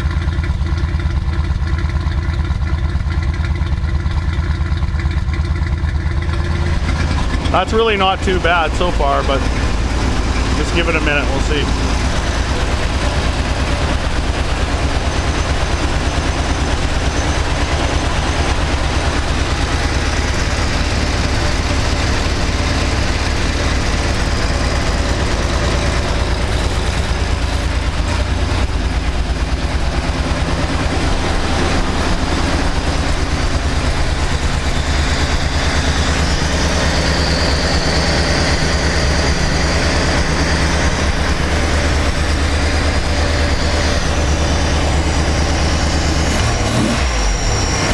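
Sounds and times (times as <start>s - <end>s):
car engine idling roughly: 0.0s - 47.9s.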